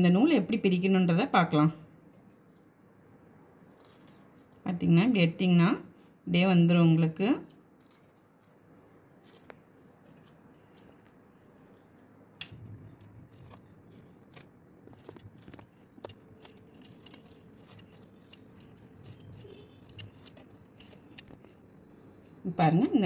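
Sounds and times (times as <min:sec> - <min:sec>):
thread rustling with light crackles: 0:01.6 - 0:23.0.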